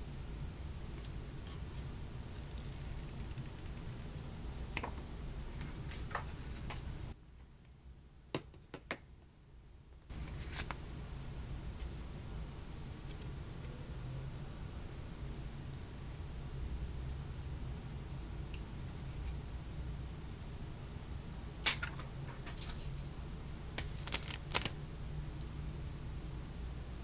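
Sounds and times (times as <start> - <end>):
steady low hum: 0.0 - 8.3, 9.4 - 27.0.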